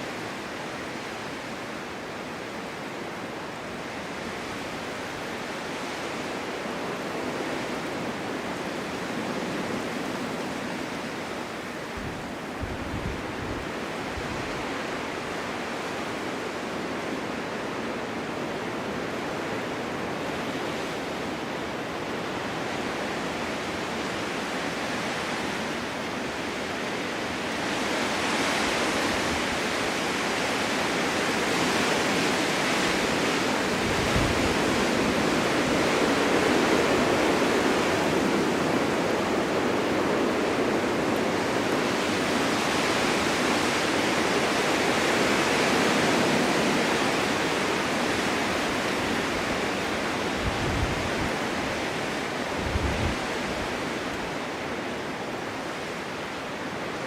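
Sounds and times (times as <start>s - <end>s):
wind blowing in gusts: 0.0s - 57.0s.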